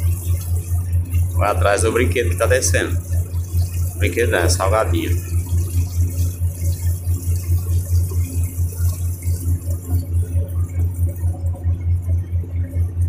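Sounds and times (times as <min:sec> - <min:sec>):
water hissing: 0:00.0 - 0:11.2
boat engine throbbing: 0:00.0 - 0:13.0.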